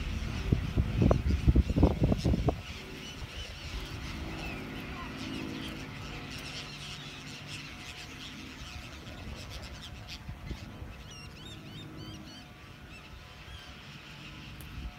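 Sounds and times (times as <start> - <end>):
gulls calling: 0.0 - 14.9.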